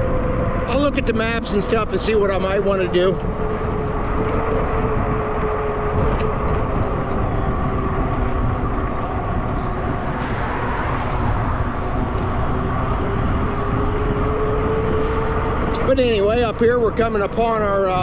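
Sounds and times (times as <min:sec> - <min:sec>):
electric bike hum: 0:00.0 - 0:18.0
wind rushing over microphone: 0:00.0 - 0:18.0.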